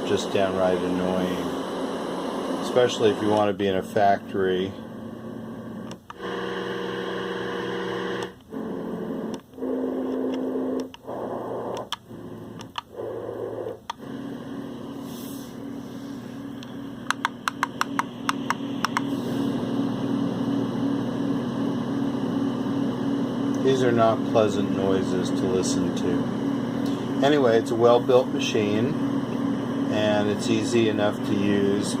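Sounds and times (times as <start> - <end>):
humming fan: 0.0 - 32.0
white noise machine rushing: 0.0 - 32.0.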